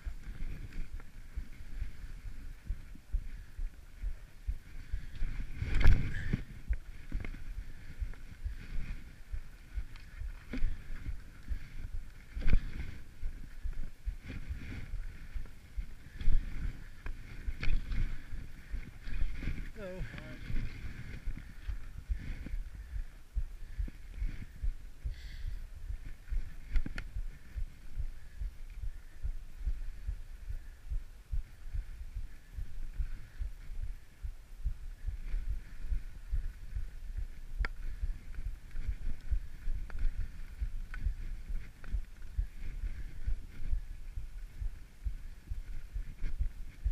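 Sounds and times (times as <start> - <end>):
gusty wind rumble: 0.0 - 46.9.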